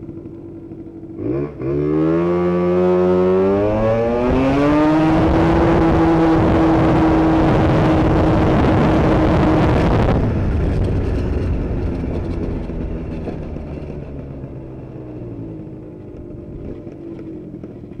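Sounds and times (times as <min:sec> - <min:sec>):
scooter two-stroke engine: 0:00.0 - 0:18.0.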